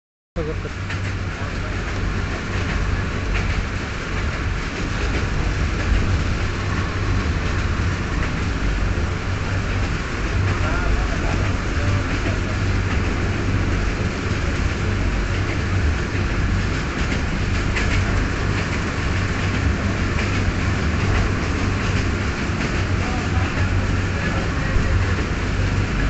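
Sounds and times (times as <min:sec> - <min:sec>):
train wheels rumbling on rails: 0:00.4 - 0:26.0.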